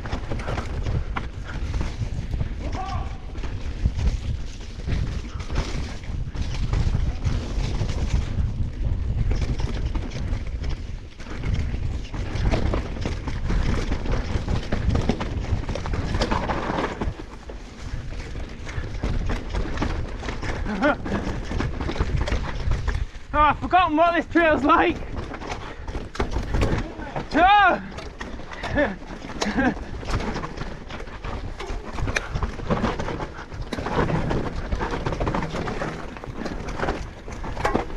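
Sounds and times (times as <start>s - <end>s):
bike rattling over rough ground: 0.0s - 37.9s
wind buffeting microphone: 0.0s - 37.9s.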